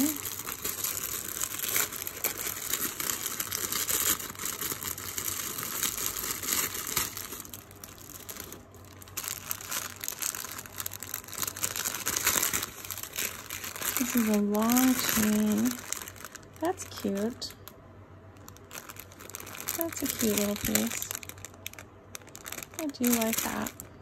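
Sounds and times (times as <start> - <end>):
cellophane crinkling: 0.0 - 24.0.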